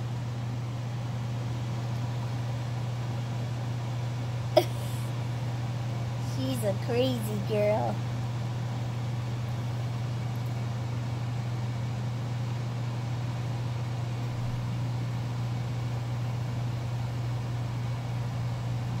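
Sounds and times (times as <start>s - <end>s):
low mechanical hum with hiss: 0.0s - 19.0s.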